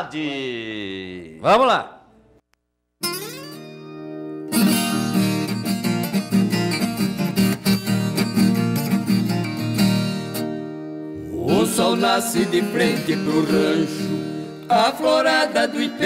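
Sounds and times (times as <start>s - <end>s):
acoustic guitar strumming: 3.0s - 16.0s.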